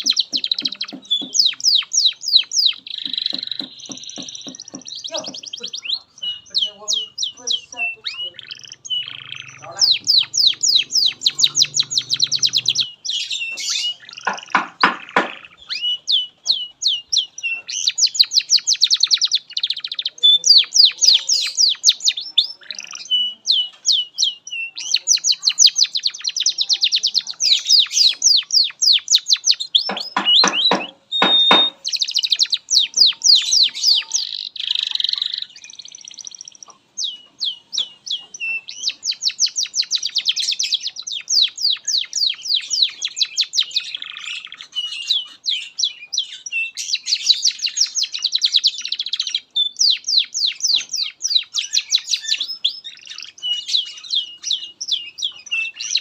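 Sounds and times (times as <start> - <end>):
canary singing rapid trills: 0.0 - 56.0.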